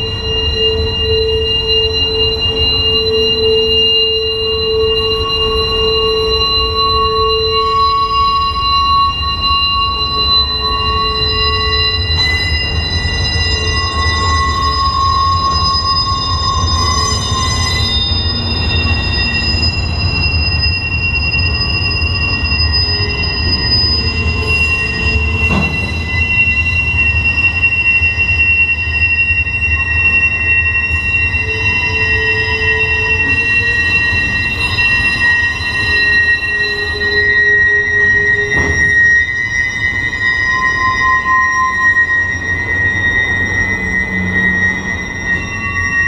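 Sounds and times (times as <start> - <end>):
high wheel squeal: 0.0 - 46.0
train wheels rumbling on rails: 0.0 - 46.0.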